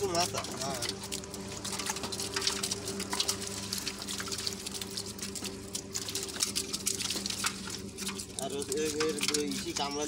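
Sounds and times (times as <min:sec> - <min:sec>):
low hum: 0:00.0 - 0:10.0
water splashing and trickling: 0:00.0 - 0:10.0.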